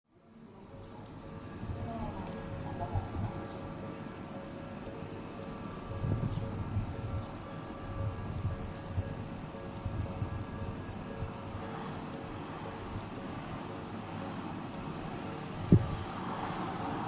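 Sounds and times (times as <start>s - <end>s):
high-pitched insects shrilling: 0.2s - 17.0s.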